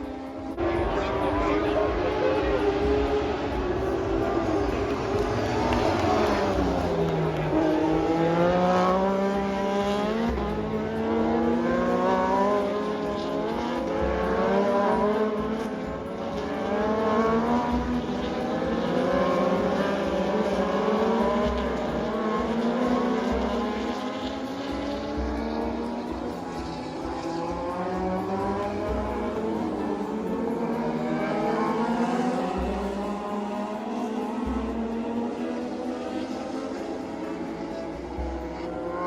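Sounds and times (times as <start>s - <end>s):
racing motorcycle engines: 0.0s - 39.0s.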